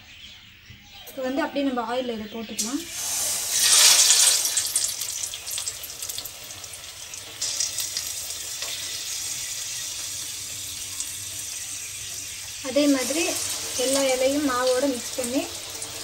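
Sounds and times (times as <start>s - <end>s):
deep-frying sizzle in oil: 2.6s - 16.0s.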